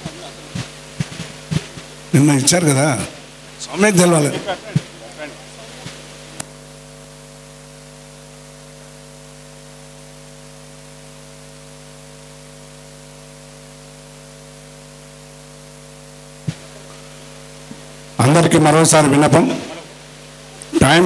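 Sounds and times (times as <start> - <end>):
mains hum and hiss: 0.0 - 21.0.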